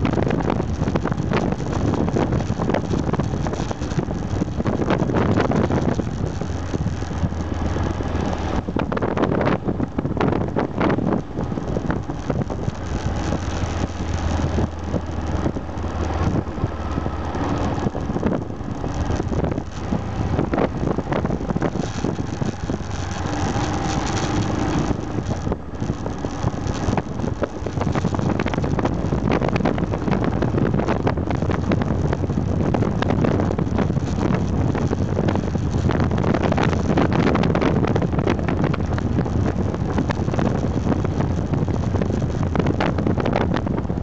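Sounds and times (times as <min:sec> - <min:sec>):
motorcycle engine running: 0:00.0 - 0:44.0
wind buffeting microphone: 0:00.0 - 0:44.0.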